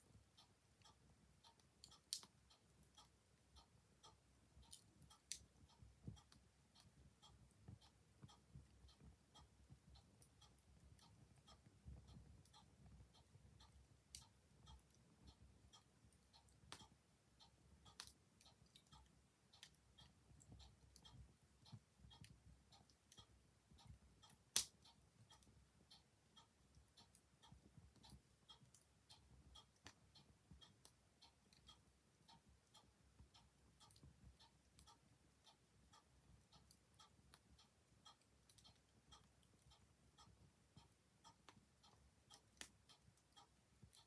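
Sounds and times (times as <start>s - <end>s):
clock ticking: 0.0s - 44.0s.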